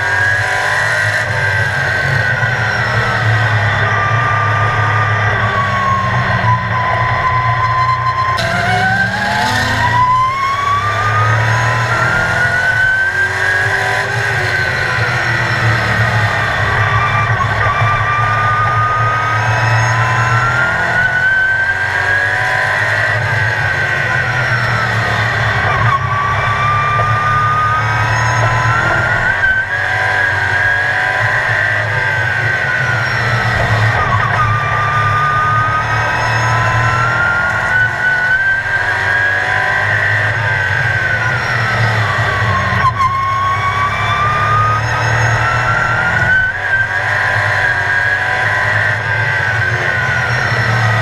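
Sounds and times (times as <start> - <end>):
race car engine revving: 0.0 - 51.0.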